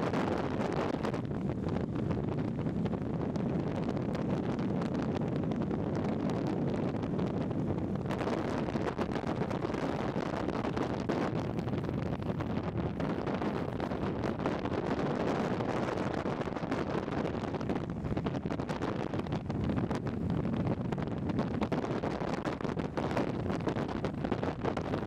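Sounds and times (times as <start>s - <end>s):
wind buffeting microphone: 0.0s - 25.0s
longboard wheels rolling on asphalt: 4.2s - 25.0s.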